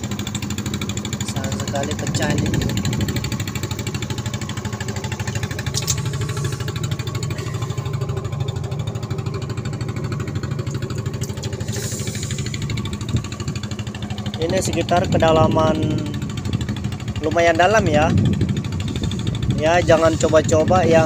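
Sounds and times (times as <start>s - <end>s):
air compressor engine running: 0.0s - 21.0s.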